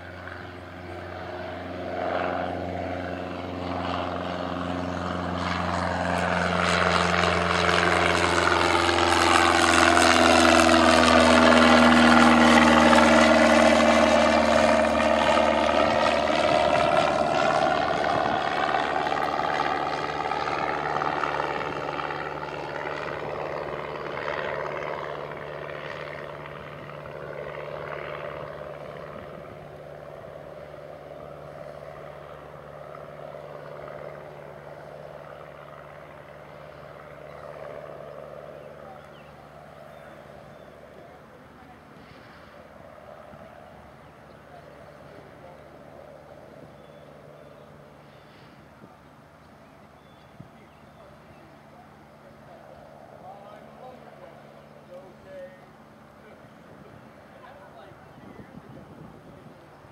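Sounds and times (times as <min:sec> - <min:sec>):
small plane engine passing: 0:00.0 - 0:59.9.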